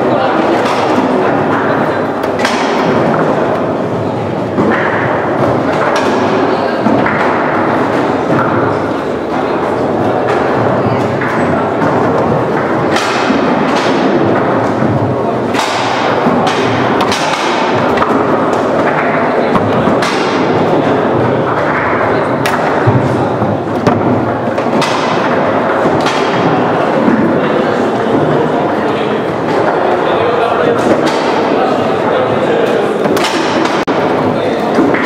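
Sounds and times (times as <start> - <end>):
foosball rods knocking: 0.0 - 35.0
steady background din: 0.0 - 35.0.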